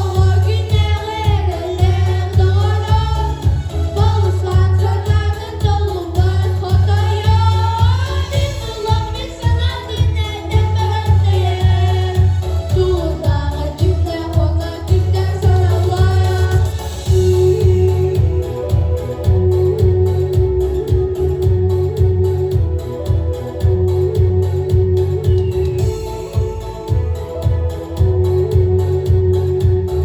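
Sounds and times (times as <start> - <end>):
pulsing bass beat: 0.0 - 30.0.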